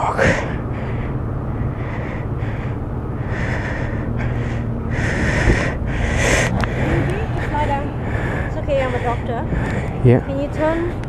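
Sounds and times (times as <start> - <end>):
low engine hum: 0.0 - 11.0
man breathing heavily and gasping: 0.0 - 11.0.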